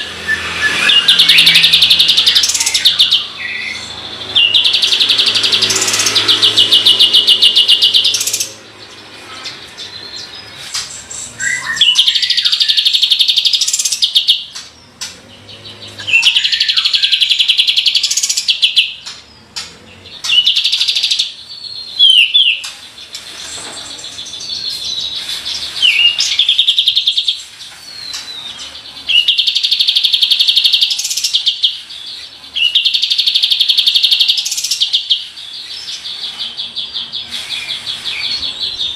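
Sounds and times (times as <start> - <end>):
bird trilling song: 0.0 - 38.9.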